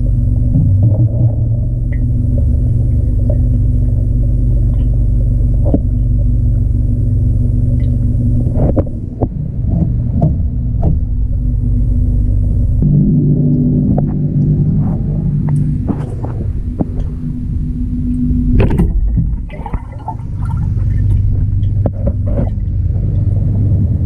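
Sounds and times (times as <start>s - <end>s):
air bubbles streaming: 0.0s - 12.8s, 13.4s - 24.0s
aquarium water pump hum: 0.0s - 24.0s.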